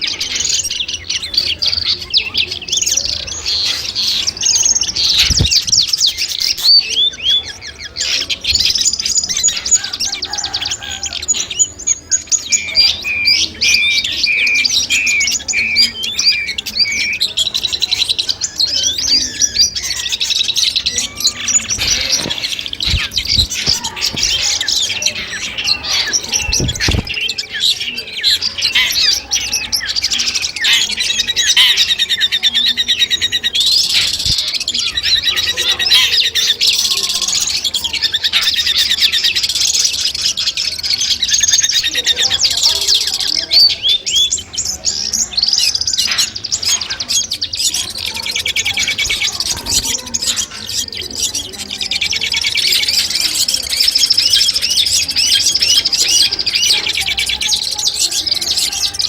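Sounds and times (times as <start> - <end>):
bird chirps and trills: 0.0 - 59.0.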